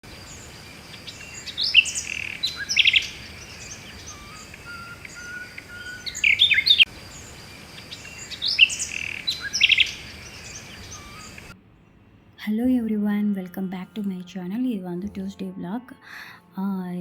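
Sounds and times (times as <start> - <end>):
small birds chirping: 0.0 - 16.6
faint steady hiss: 0.0 - 17.0.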